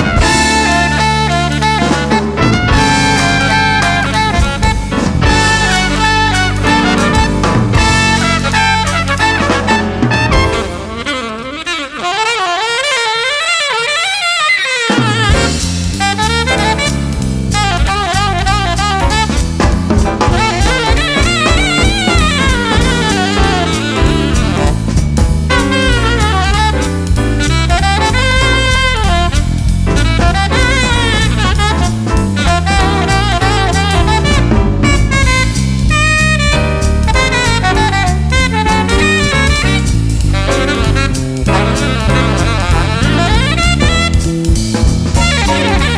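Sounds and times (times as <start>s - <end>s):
bass: 0.0s - 13.0s, 14.9s - 45.9s
drum kit swing beat: 0.0s - 45.9s
saxophone melody with vibrato: 0.0s - 45.9s.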